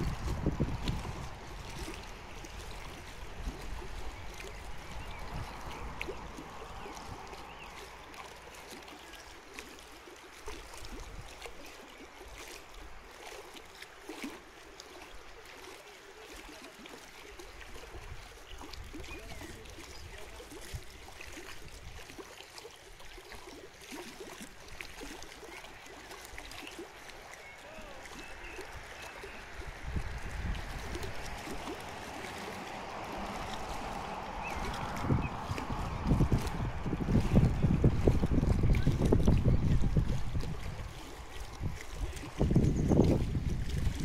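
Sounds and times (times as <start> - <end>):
small waves lapping: 0.0 - 44.0.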